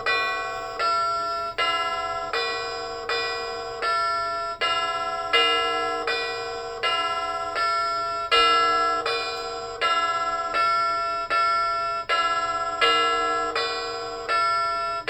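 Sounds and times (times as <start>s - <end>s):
alarm clock chime melody: 0.0s - 15.0s.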